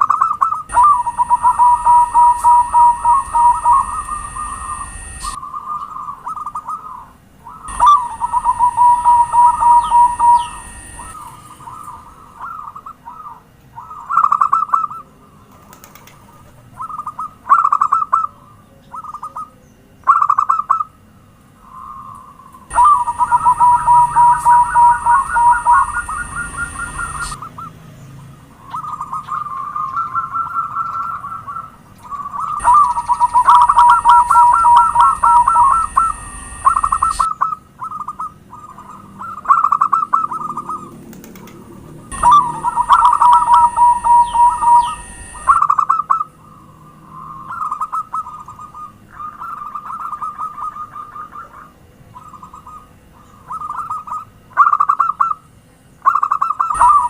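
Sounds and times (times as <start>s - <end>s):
doves cooing: 0.0s - 20.9s, 21.5s - 55.4s, 56.0s - 57.0s.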